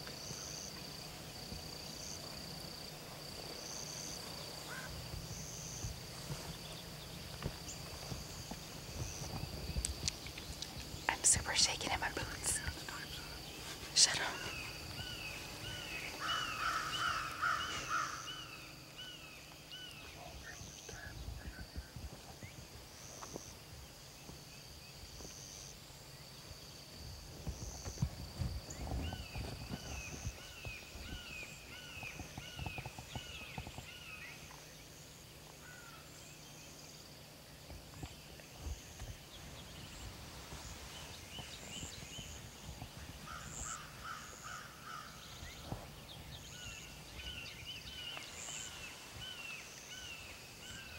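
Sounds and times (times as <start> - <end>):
faint bird and insect calls: 0.0 - 50.9.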